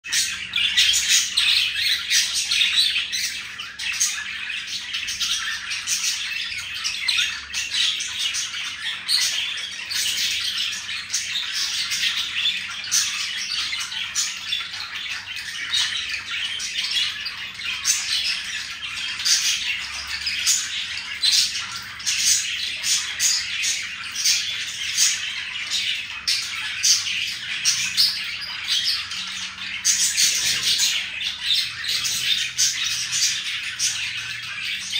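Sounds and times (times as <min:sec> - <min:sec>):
budgies chattering: 0:00.0 - 0:34.9.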